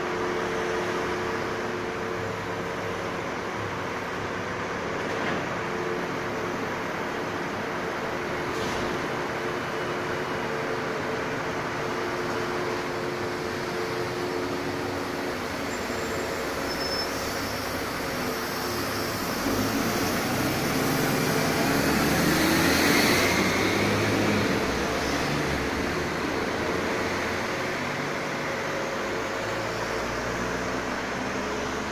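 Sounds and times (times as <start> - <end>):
bus driving past: 0.0 - 31.9
engine hum: 0.0 - 31.9
street traffic: 0.0 - 31.9.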